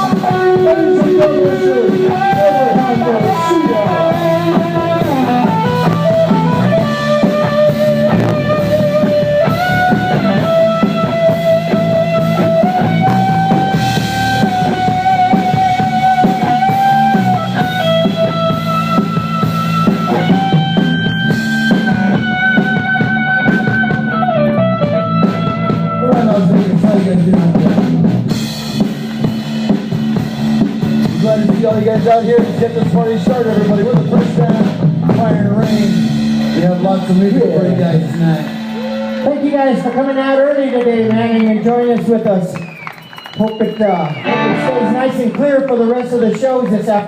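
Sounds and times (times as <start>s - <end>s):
lead guitar with bends: 0.0s - 39.5s, 44.1s - 45.4s
drum kit: 0.0s - 39.6s, 44.1s - 47.0s
bass guitar: 0.0s - 47.0s.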